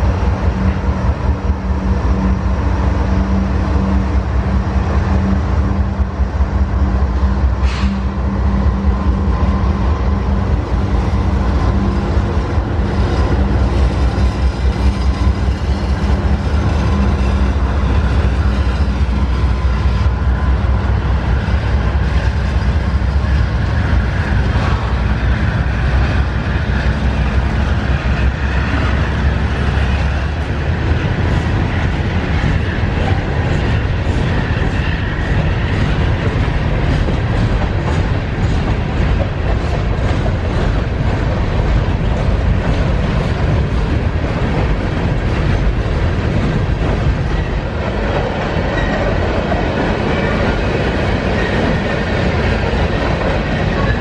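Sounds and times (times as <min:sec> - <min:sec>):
diesel locomotives rumbling: 0:00.0 - 0:54.0
train wheels clicking over rail joints: 0:07.4 - 0:54.0.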